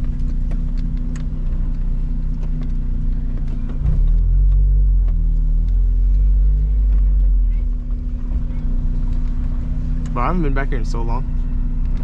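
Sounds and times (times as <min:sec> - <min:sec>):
car engine running from inside: 0:00.0 - 0:12.0.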